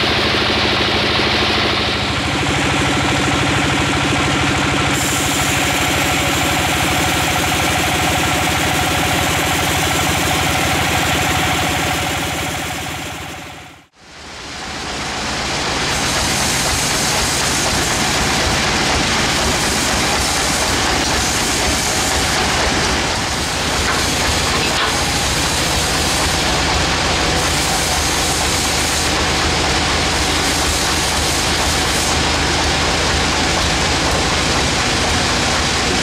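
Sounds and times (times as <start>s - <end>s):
band saw and engine running: 0.0s - 36.0s.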